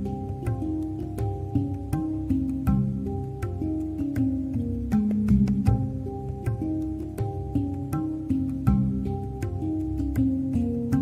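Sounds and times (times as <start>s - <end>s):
handpan music: 0.0s - 11.0s.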